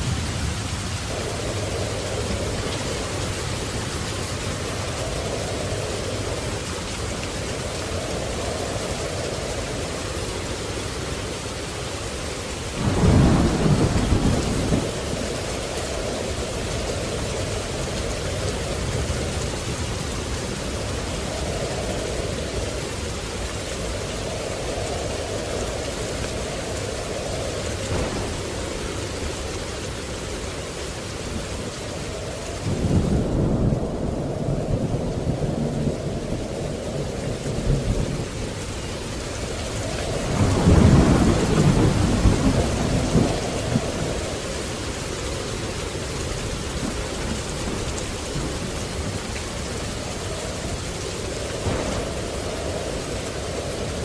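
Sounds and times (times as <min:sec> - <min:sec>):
steady rain: 0:00.0 - 0:54.0
thunder clap and rumble: 0:00.0 - 0:54.0.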